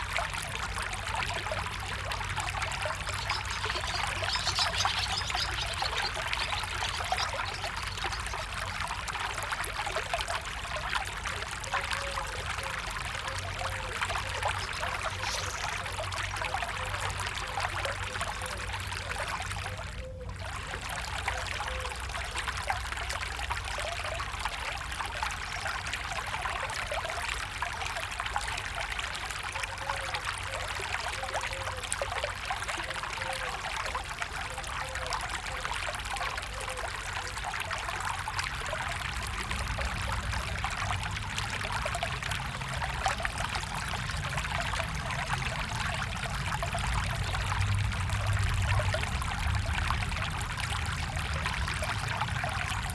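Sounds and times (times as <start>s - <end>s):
stream trickling: 0.0s - 52.9s.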